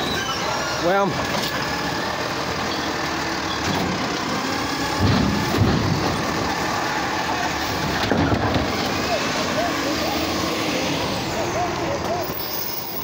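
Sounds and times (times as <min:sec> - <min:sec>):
garbage truck engine running: 0:00.0 - 0:13.0
hydraulic arm whining: 0:00.0 - 0:13.0.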